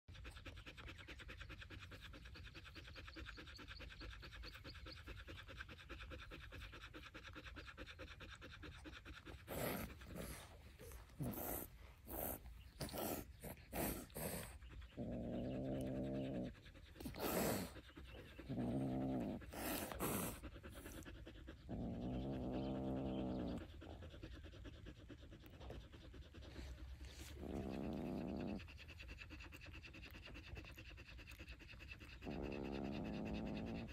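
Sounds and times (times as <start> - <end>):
dog panting: 0.1 - 33.9.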